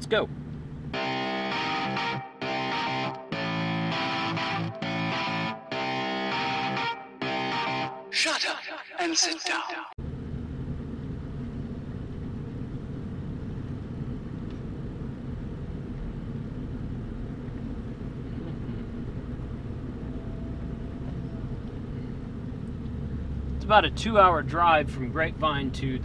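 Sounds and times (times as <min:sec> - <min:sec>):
road noise: 0:00.0 - 0:06.8, 0:09.3 - 0:26.0
engine drone: 0:00.0 - 0:07.7, 0:10.0 - 0:26.0.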